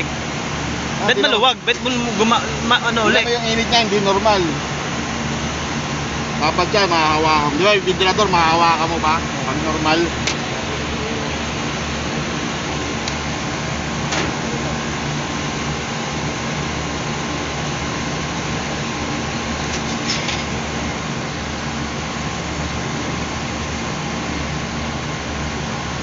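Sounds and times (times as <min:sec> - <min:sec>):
air conditioning machinery drone: 0:00.0 - 0:26.0.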